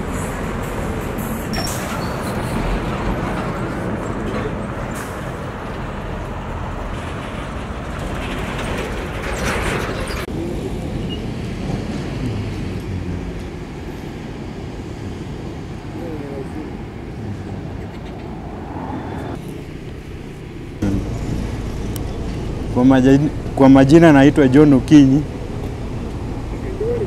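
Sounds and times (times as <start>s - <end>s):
diesel road roller engines rumbling: 0.0s - 27.0s.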